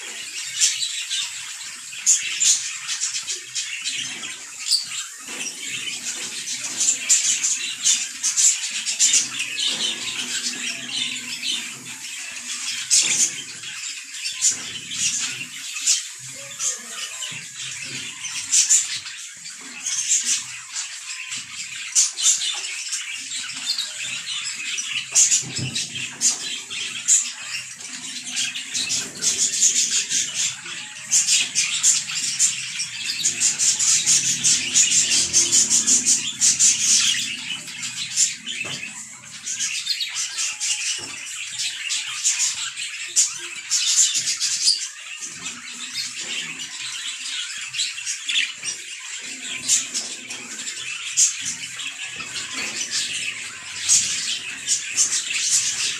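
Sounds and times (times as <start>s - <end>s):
budgerigars chattering and warbling: 0.0s - 55.9s.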